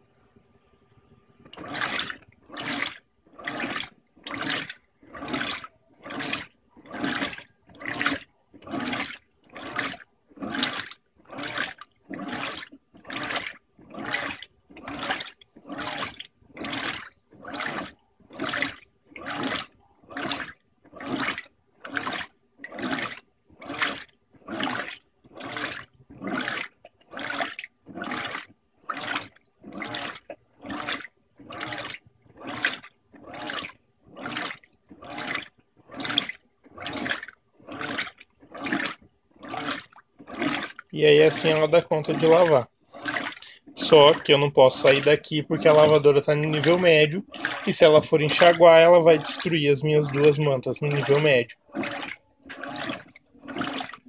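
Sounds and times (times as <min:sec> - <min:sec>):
washing machine water sloshing: 0:01.2 - 0:54.0.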